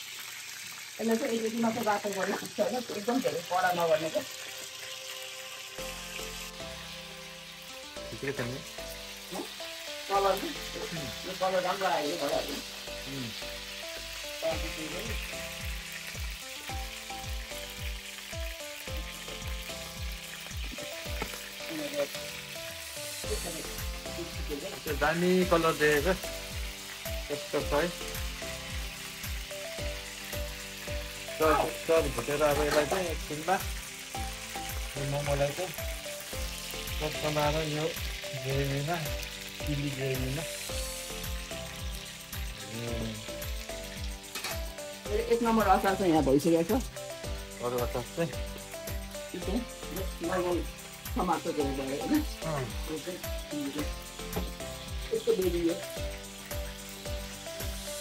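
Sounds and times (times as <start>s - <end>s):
dumplings sizzling in oil: 0.0s - 58.0s
background music with beat: 5.8s - 58.0s.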